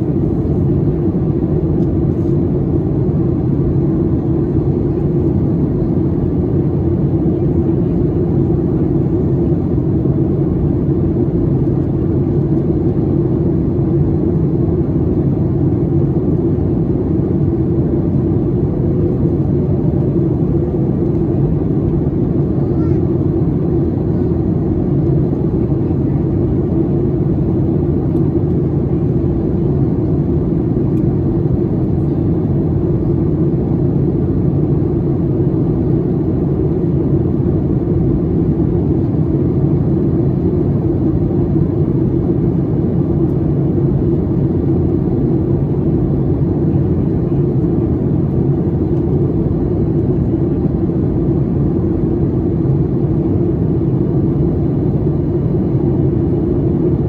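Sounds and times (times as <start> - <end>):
airliner cabin roar: 0.0 - 57.0
jet engines humming: 0.0 - 57.0.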